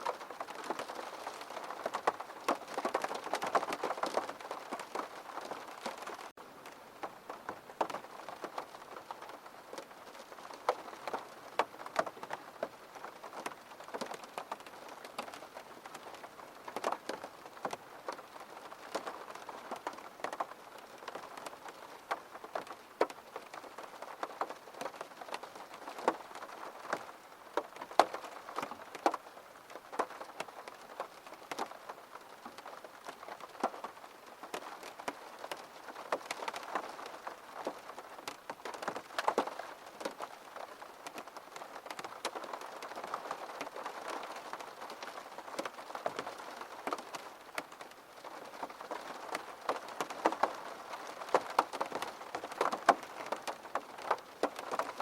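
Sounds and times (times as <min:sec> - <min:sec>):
rain drops tapping on surface: 0:00.0 - 0:55.0.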